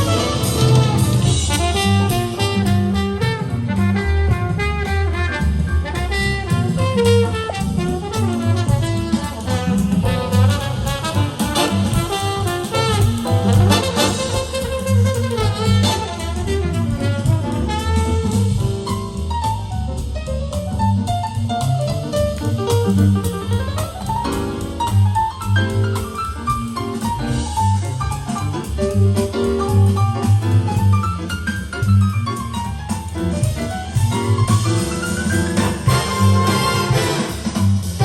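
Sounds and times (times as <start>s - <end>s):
big band jazz: 0.0s - 38.0s.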